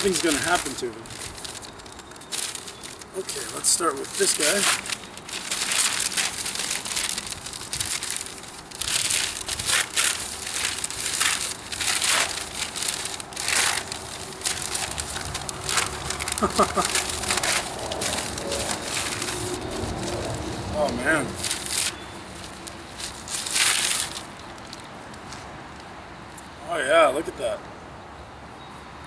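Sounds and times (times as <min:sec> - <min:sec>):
wrapping crinkling and rustling: 0:00.0 - 0:25.5.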